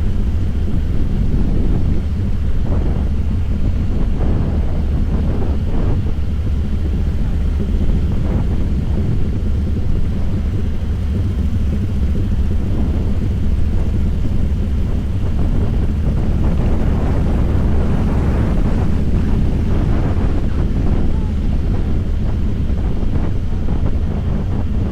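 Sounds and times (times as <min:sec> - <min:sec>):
motorcycle engine cruising: 0:00.0 - 0:24.9.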